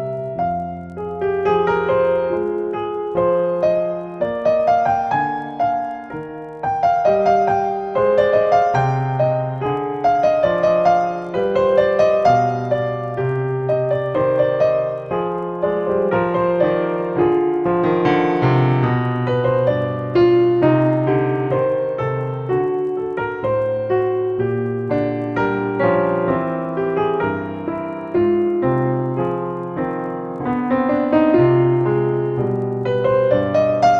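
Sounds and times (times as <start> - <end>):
gentle piano music: 0.0 - 33.9.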